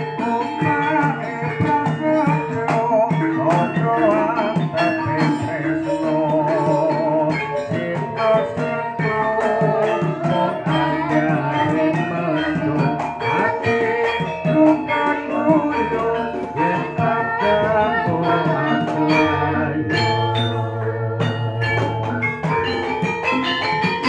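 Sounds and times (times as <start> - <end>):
gongs: 0.0 - 24.0
hand drums beating: 0.0 - 24.0
metallophones ringing: 0.0 - 24.0
person singing into a microphone: 0.0 - 24.0.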